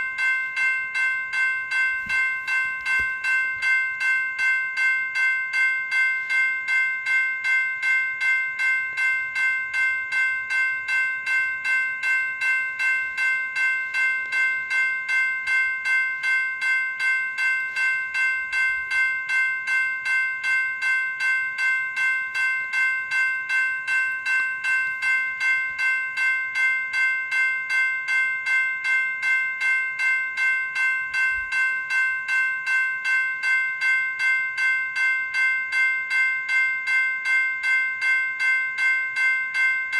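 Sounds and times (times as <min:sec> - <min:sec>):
electronic crossing bell ringing: 0:00.0 - 0:39.9.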